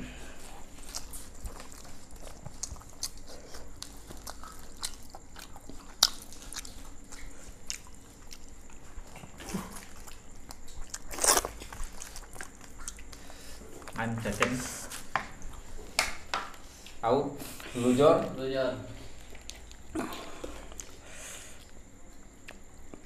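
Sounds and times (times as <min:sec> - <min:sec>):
chewing and crunching: 0:00.1 - 0:17.0, 0:19.0 - 0:23.0.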